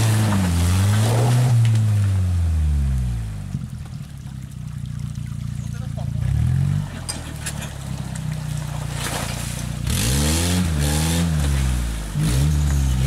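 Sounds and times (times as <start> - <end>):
car engine revving: 0.0 - 3.8, 5.5 - 13.0.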